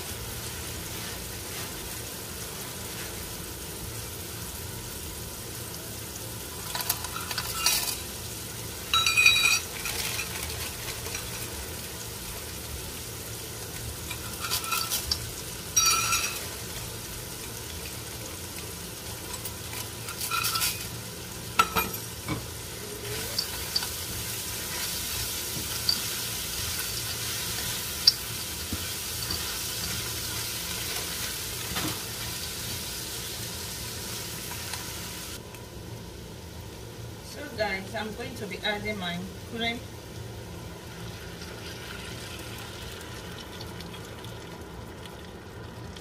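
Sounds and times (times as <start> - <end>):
food sizzling in frying pan: 0.0 - 46.0.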